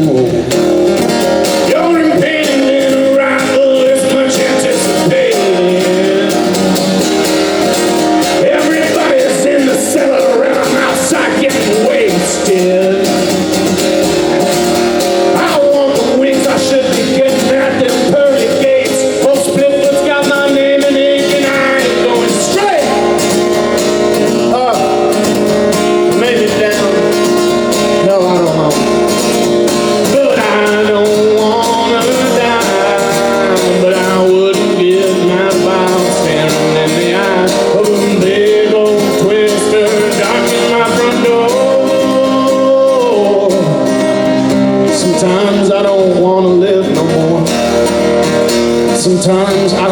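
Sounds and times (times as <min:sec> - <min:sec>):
acoustic guitar accompaniment: 0:00.0 - 0:49.9.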